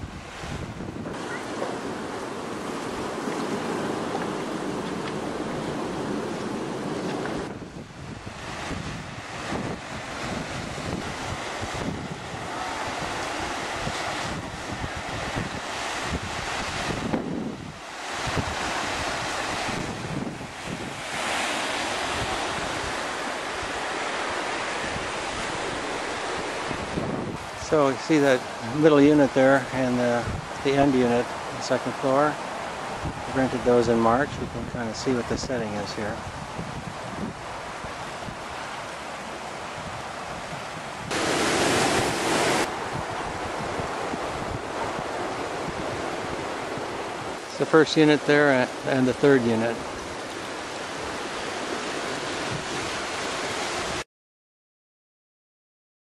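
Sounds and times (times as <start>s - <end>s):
wind buffeting microphone: 0.0s - 30.8s, 32.5s - 47.5s, 49.6s - 54.0s
ocean surf rushing: 0.0s - 54.0s
waves washing onto beach: 0.0s - 54.0s.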